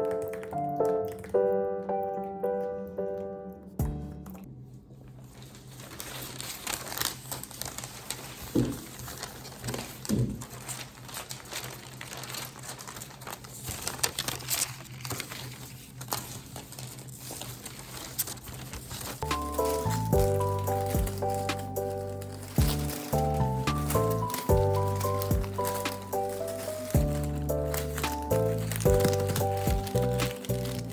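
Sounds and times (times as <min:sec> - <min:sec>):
crinkling and rustling: 0:00.0 - 0:30.9.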